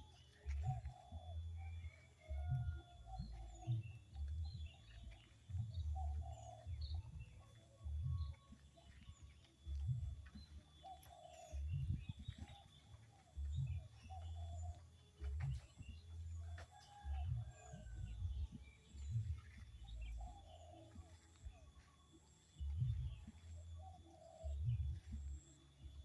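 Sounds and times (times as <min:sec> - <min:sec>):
birds calling: 0:00.0 - 0:26.0
low rumbling microphone surges: 0:00.0 - 0:26.0.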